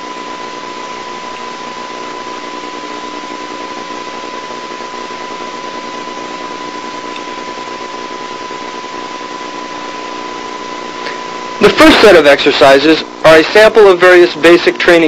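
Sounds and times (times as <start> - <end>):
videotape hiss: 0.0 - 15.0.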